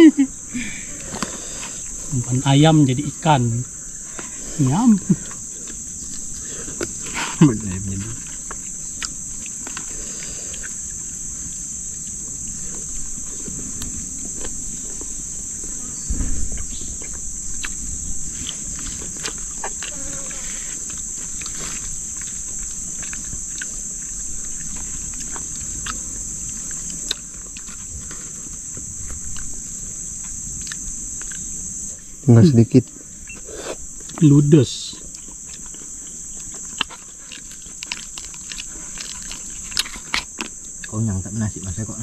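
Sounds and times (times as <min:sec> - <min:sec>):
insect chorus drone: 0:00.0 - 0:42.0.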